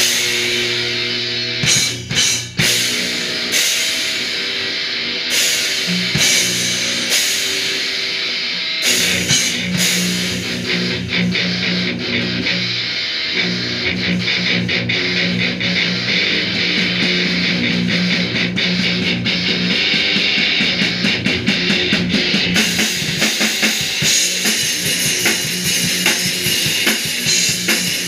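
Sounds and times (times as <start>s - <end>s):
distorted electric guitar: 0.0s - 28.0s
drum kit: 0.0s - 28.0s.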